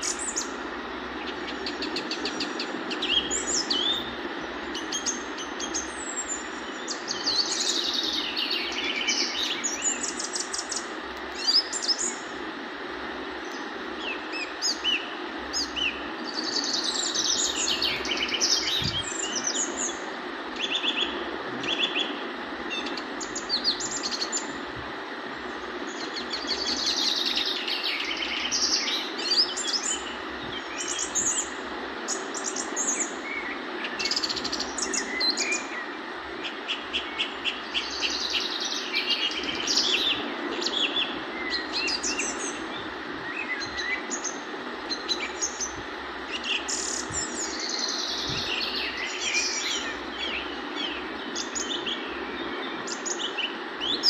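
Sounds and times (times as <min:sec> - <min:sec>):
birds chirping and twittering: 0:00.0 - 0:54.0
steady hiss: 0:00.0 - 0:54.0.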